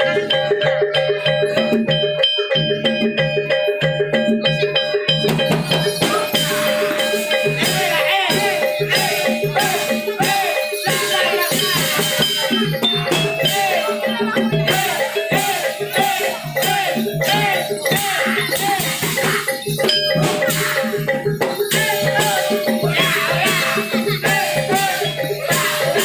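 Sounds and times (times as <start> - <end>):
gamelan music: 0.0 - 26.0
percussion beat: 0.0 - 26.0
jingling rattles: 0.3 - 26.0.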